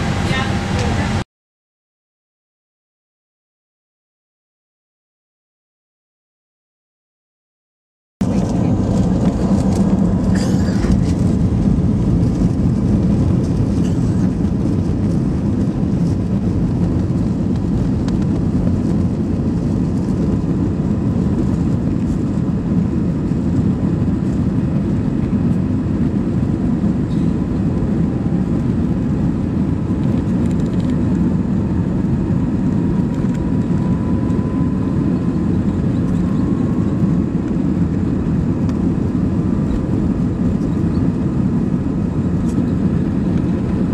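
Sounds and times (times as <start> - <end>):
airliner cabin engine rumble: 0.0 - 1.3, 8.2 - 43.9.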